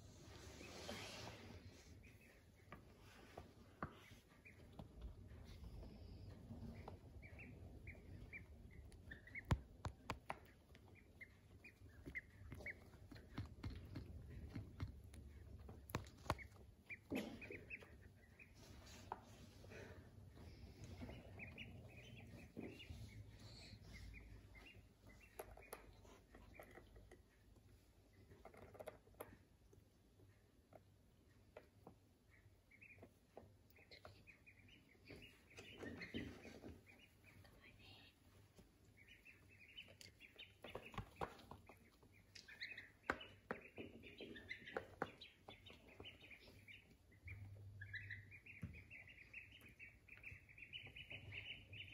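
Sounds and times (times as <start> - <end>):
ducklings peeping: 0.2 - 51.9.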